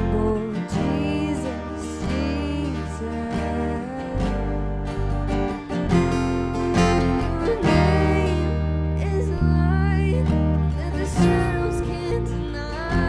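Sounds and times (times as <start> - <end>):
acoustic guitar strumming: 0.0 - 13.0
sustained low chords: 0.0 - 13.0.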